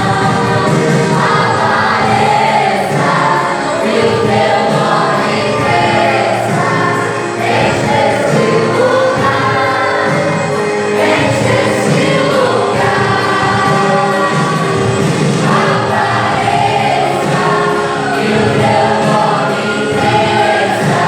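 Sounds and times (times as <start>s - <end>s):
instrumental accompaniment with beat: 0.0s - 21.0s
voices singing together: 0.0s - 21.0s.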